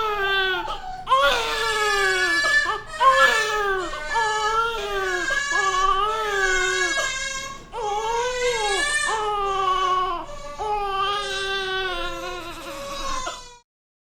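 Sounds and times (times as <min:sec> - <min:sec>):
newborn baby crying: 0:00.0 - 0:13.6.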